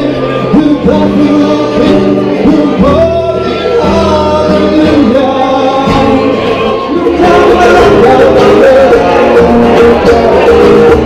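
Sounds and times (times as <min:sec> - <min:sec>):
acoustic guitar: 0:00.0 - 0:11.0
melodic lead line: 0:00.0 - 0:11.0.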